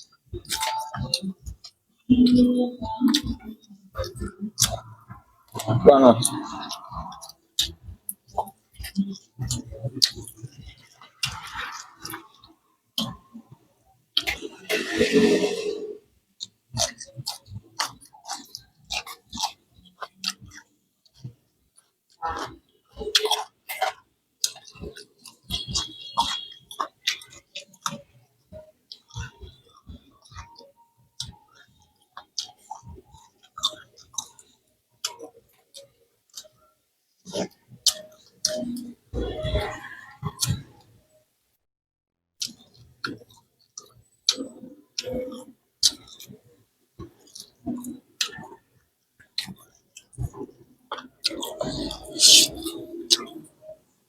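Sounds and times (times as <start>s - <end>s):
person chewing and crunching food: 0.0s - 15.8s, 16.4s - 36.6s, 37.2s - 40.9s, 42.4s - 48.6s, 49.2s - 53.8s.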